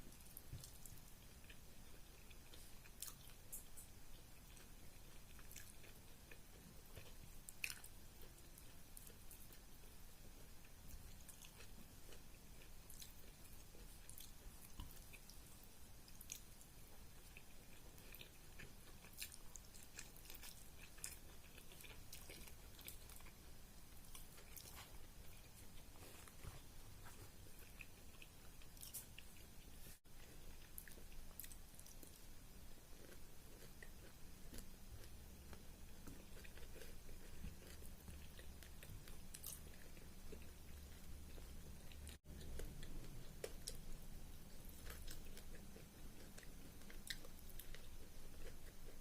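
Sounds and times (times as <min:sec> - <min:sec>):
chewing wet food: 0:00.0 - 0:49.0.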